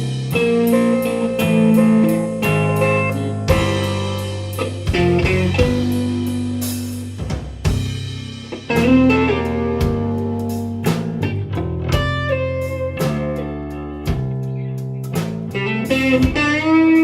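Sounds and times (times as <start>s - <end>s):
electric guitar ringing notes: 0.0s - 7.1s, 8.4s - 14.0s, 15.6s - 17.0s
bass guitar: 0.0s - 17.0s.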